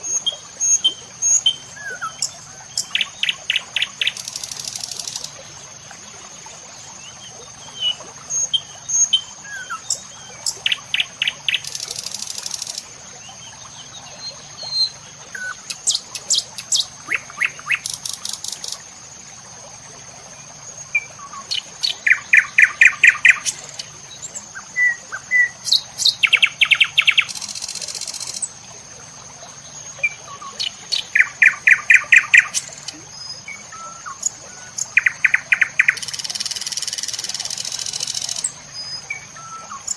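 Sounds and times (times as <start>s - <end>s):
birds chirping: 0.0s - 5.4s, 7.0s - 18.8s, 20.4s - 28.6s, 29.6s - 39.9s.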